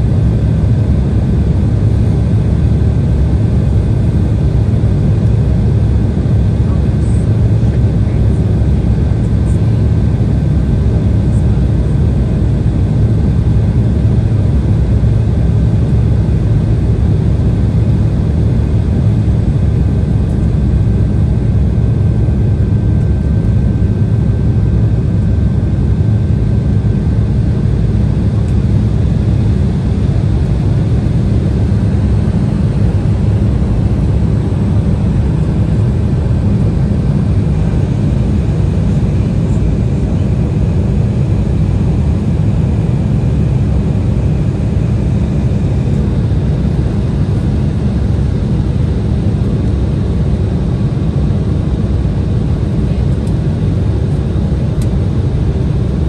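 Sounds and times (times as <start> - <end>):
airflow rushing in cabin: 0.0 - 56.0
jet engines droning: 0.0 - 56.0.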